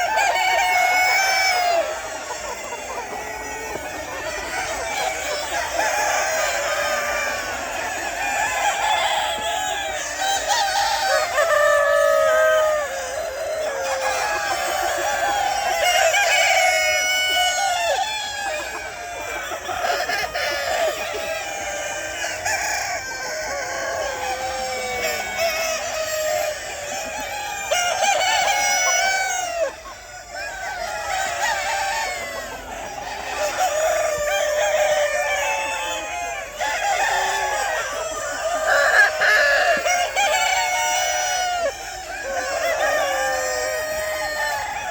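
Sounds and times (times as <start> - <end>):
chickens clucking: 0.0 - 44.9
roosters crowing: 0.0 - 44.9.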